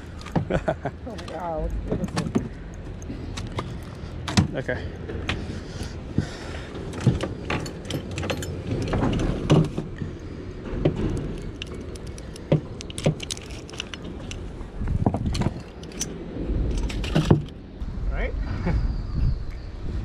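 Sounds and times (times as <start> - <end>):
fish and tackle clicking and knocking: 0.0 - 17.6.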